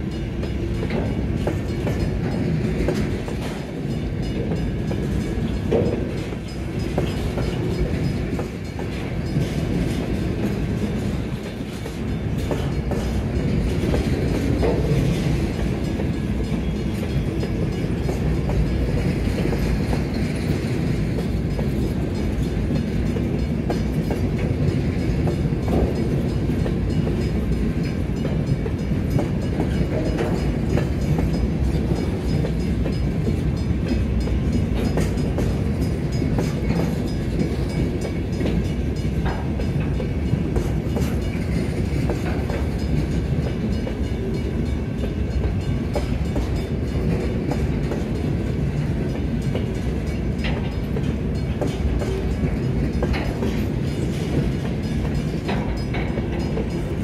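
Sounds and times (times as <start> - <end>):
train clicks and clanks: 0.0 - 57.0
train wheels rumbling on rails: 0.0 - 57.0.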